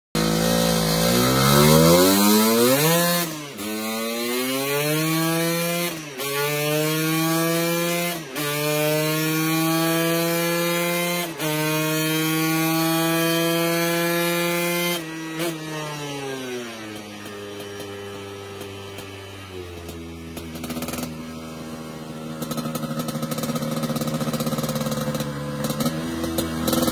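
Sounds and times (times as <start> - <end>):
two-stroke scooter engine revving: 0.2 - 26.9.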